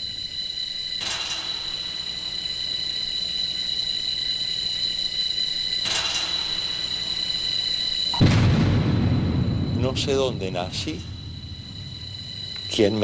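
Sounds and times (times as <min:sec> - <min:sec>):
high-pitched ringing chord: 0:00.0 - 0:13.0
low hum: 0:00.0 - 0:13.0.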